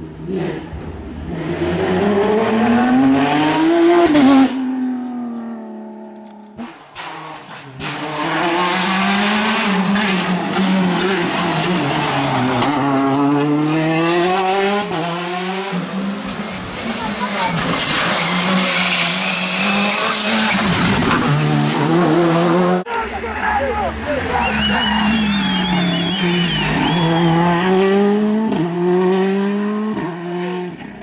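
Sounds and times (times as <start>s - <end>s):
rally car engines at full throttle: 0.0s - 31.0s.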